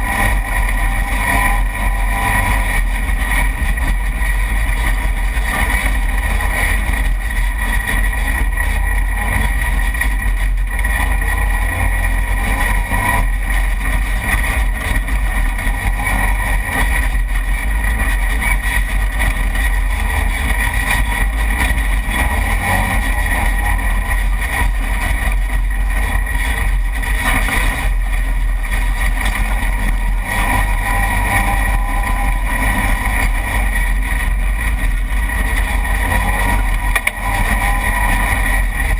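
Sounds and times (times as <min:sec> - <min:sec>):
off-road vehicle engine running: 0:00.0 - 0:38.9
road and wind noise: 0:00.0 - 0:38.9.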